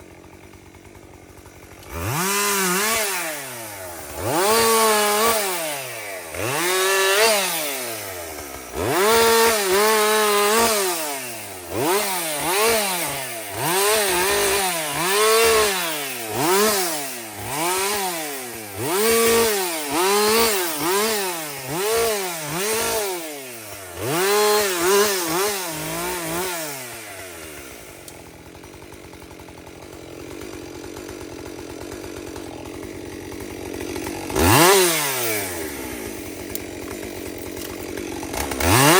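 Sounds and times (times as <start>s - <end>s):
chainsaw revving while cutting: 0.0s - 38.9s.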